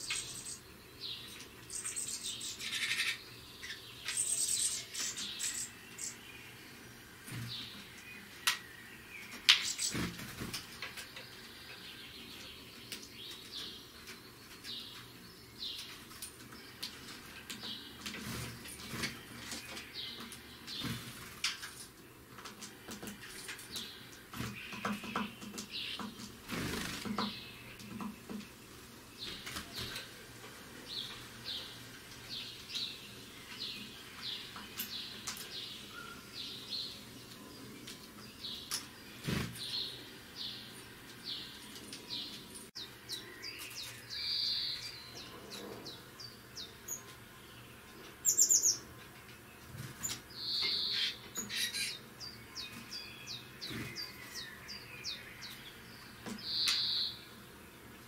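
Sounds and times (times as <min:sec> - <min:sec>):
bird chirping: 0:00.0 - 0:10.1, 0:10.7 - 0:30.1, 0:30.8 - 0:57.6.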